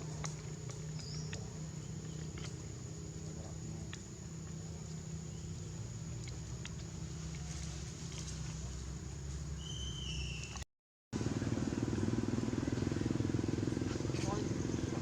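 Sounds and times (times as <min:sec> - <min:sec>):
engine running: 0:00.0 - 0:09.6, 0:11.2 - 0:15.0.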